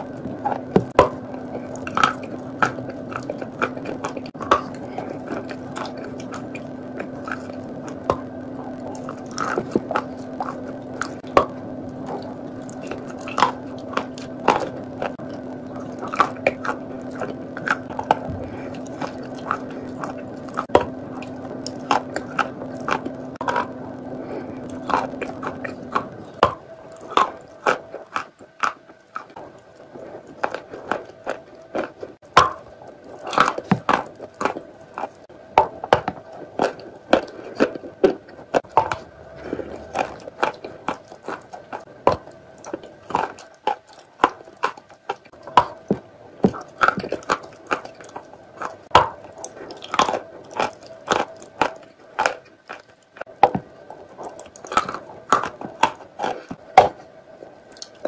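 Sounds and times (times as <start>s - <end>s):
crunchy chewing: 0.0s - 58.0s
steady low hum: 0.0s - 58.0s.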